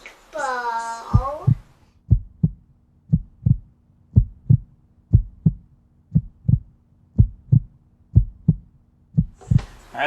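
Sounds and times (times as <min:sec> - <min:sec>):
faint steady hum: 0:00.0 - 0:10.0
heartbeat thumping: 0:01.1 - 0:09.8.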